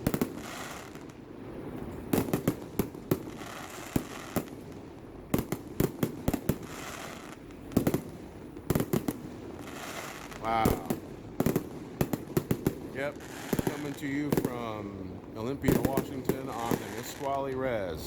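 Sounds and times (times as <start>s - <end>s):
faint fireworks hiss: 0.0s - 18.0s
fireworks bursting with sharp bangs: 0.0s - 18.0s.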